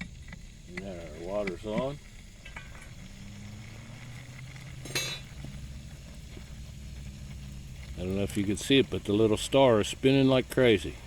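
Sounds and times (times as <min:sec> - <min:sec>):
water running through pipe: 0:00.0 - 0:11.0.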